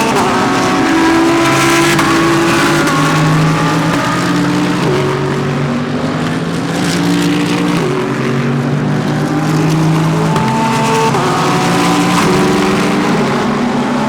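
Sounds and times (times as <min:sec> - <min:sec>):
race car engines with gear changes: 0:00.0 - 0:14.0.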